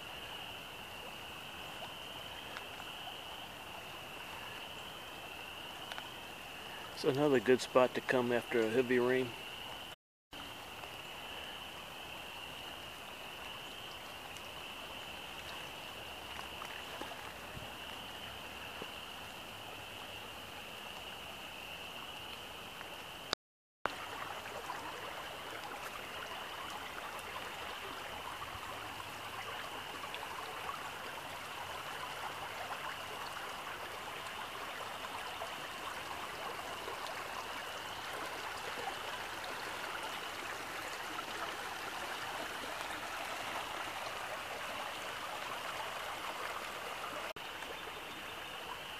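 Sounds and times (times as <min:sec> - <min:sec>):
creek rushing over its bed: 0:00.0 - 0:48.9.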